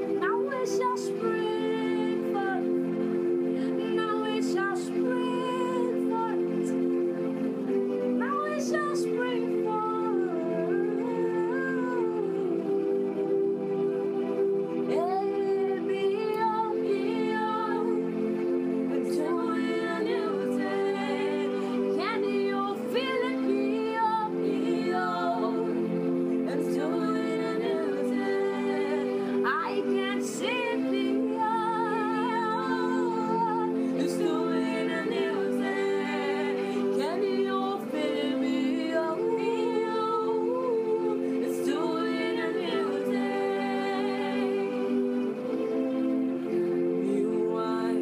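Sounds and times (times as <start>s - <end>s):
woman singing slow worship melody: 0.0s - 7.4s, 8.0s - 48.0s
held pad chords: 0.0s - 48.0s.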